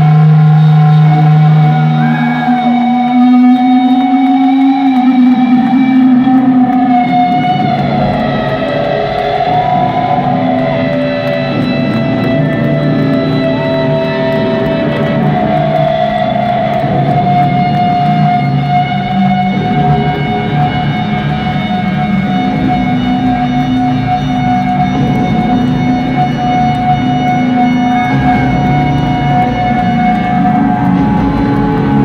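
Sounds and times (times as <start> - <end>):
electric guitar feedback: 0.0 - 32.0
low sustained drone: 0.0 - 32.0.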